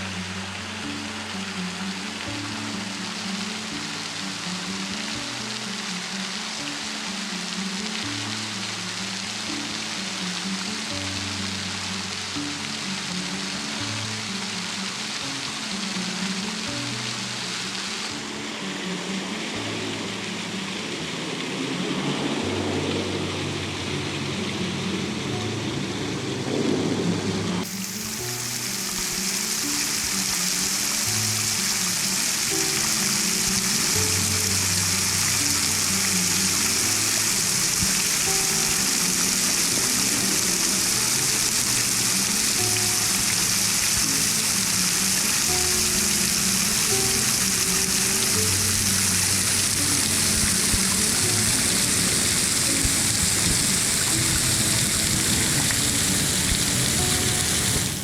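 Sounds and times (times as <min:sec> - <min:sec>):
slow low sustained music: 0:00.0 - 0:58.0
waterfall rushing: 0:00.0 - 0:58.0.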